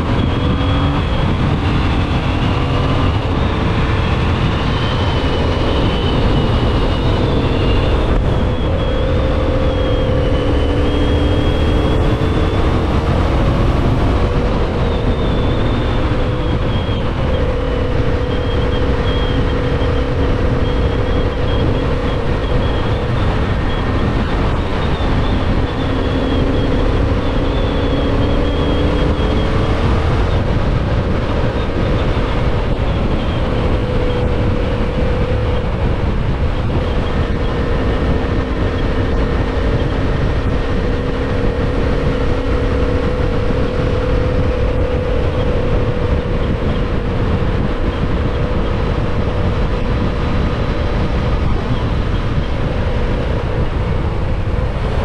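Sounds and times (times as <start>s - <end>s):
motorcycle engine cruising: 0.0s - 55.0s
wind rush on microphone: 0.0s - 55.0s.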